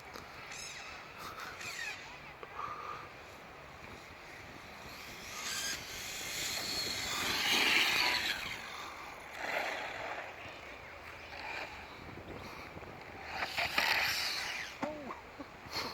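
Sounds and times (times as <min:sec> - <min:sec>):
rc car motor and tyres: 0:00.0 - 0:15.9.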